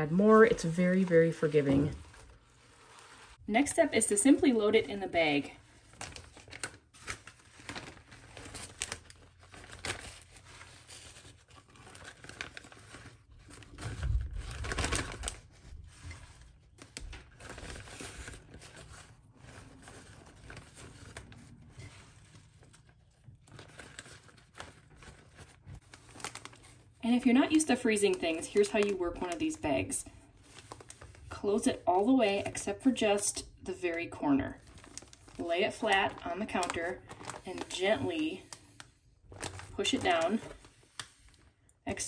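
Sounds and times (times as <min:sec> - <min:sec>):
plastic bag crinkling: 0:00.0 - 0:42.0.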